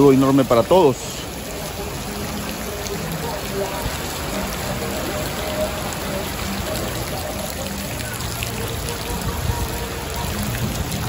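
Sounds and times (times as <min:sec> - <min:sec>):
heavy rain on wet pavement: 0:00.0 - 0:11.0.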